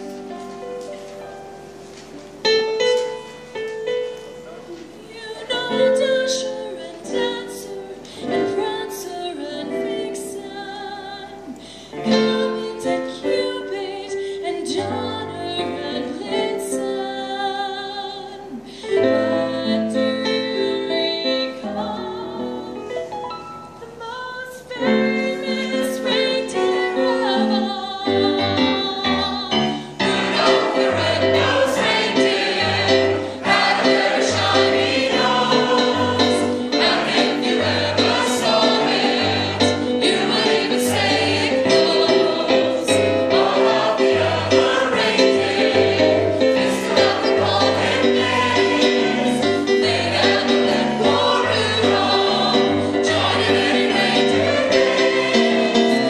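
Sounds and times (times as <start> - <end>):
choir singing a carol: 5.0 - 23.2, 23.9 - 56.0.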